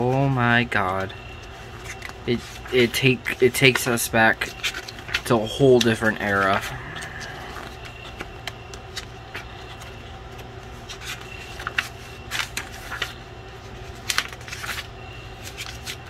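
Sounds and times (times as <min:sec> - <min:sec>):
faint low hum: 0:00.0 - 0:16.0
paper pages rustling: 0:00.0 - 0:16.0.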